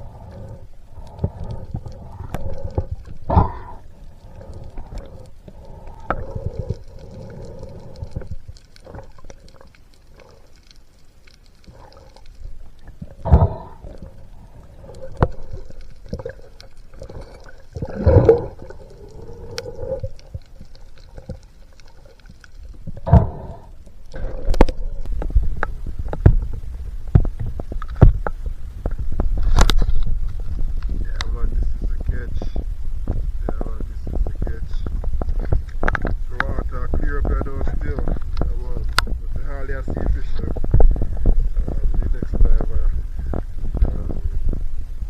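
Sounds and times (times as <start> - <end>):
underwater gurgling and rumbling: 0.0 - 45.0.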